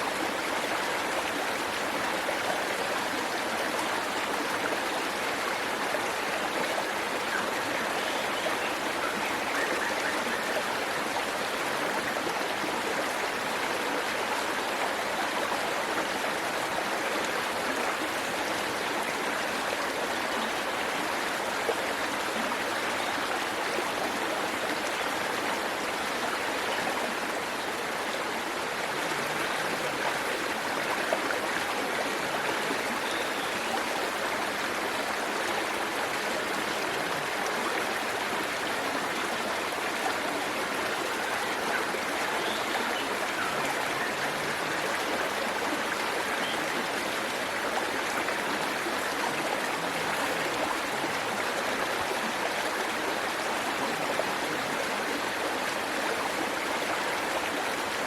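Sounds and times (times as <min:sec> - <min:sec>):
waterfall rushing and splashing: 0:00.0 - 0:58.0.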